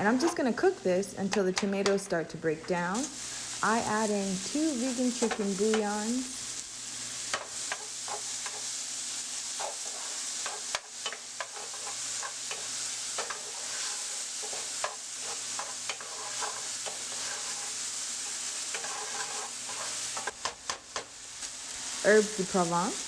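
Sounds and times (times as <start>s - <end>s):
vegetables sizzling in a pan: 0.0s - 23.0s
pan being stirred: 2.6s - 6.6s, 7.2s - 21.8s.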